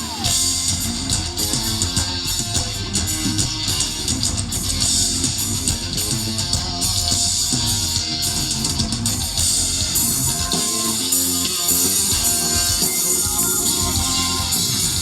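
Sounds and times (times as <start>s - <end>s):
drum kit: 0.0s - 15.0s
guitar: 0.0s - 15.0s
live band playing gospel: 0.0s - 15.0s.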